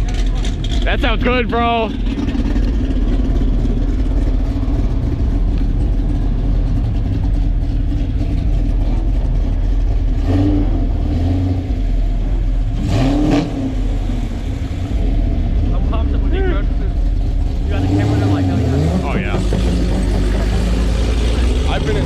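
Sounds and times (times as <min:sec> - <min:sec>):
engine running and revving: 0:00.0 - 0:22.0.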